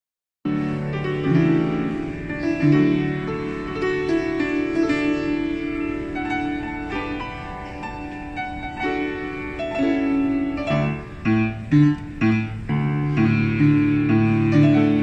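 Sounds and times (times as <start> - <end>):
upright piano playing: 0.5 - 15.0.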